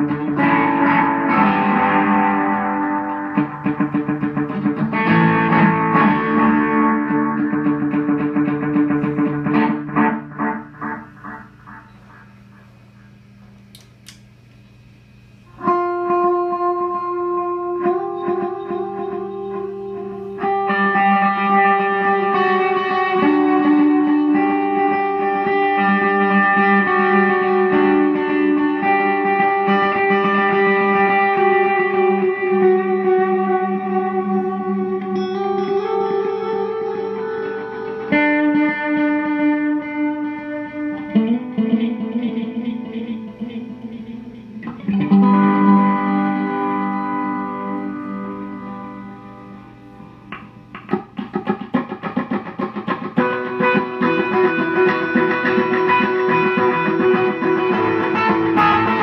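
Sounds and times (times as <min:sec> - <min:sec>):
electric guitar chords with delay: 0:00.0 - 0:13.7, 0:14.9 - 0:59.0
faint hum: 0:00.0 - 0:59.0.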